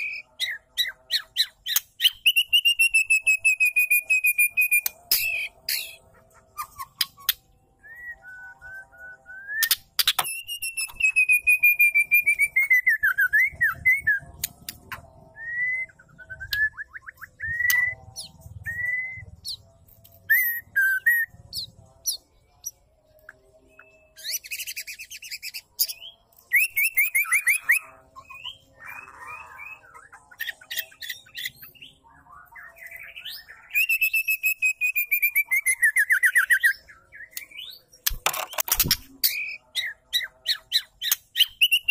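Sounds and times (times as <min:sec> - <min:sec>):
bird whistled notes and trills: 0:00.0 - 0:41.9.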